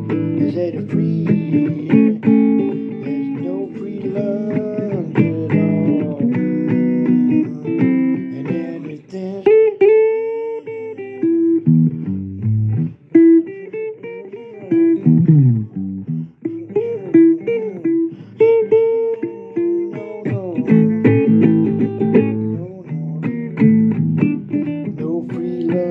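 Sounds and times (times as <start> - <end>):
blues guitar solo with bent notes: 0.0 - 25.9.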